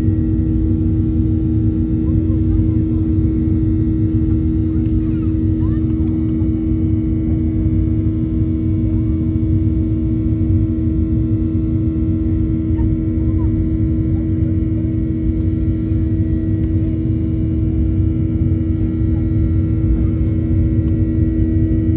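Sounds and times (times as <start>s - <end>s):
jet engine drone in cabin: 0.0s - 21.9s.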